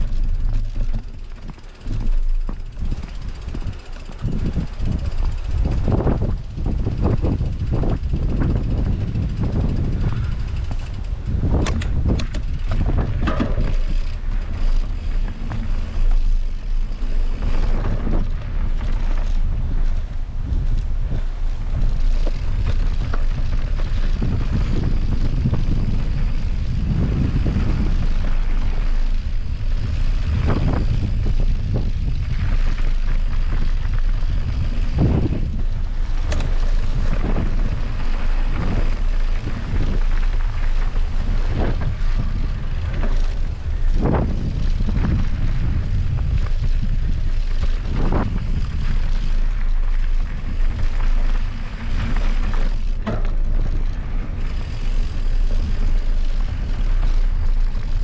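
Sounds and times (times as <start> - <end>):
bike knocks and clatters: 0.0 - 58.0
wind buffeting microphone: 0.0 - 58.0.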